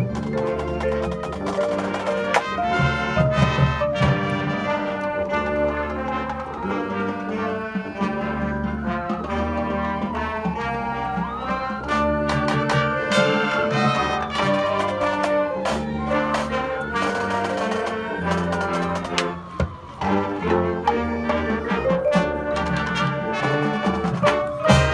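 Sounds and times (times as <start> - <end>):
marching band playing: 0.0 - 24.9
sliding brass pitch: 0.0 - 24.9.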